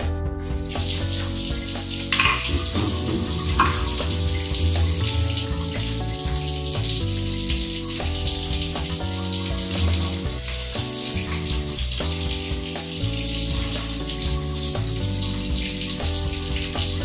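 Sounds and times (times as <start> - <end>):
background music of held notes: 0.0 - 17.0
tap water running into sink: 0.6 - 17.0.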